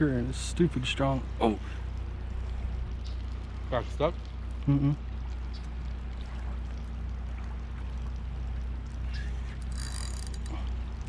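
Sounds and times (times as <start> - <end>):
moving water: 0.0 - 11.0.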